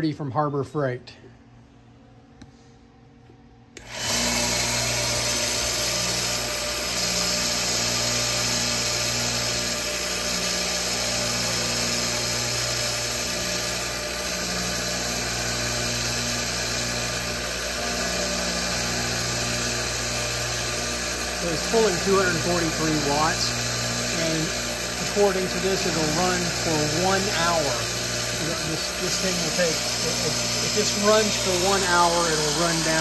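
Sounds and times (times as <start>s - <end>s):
belt sander running: 3.8s - 33.0s.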